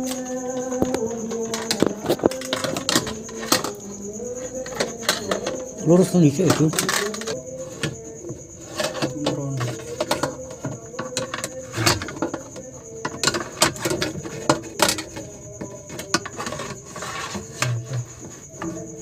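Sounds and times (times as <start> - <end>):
sharp clicks and knocks: 0.0 - 18.8
high-pitched insect trill: 0.0 - 19.0.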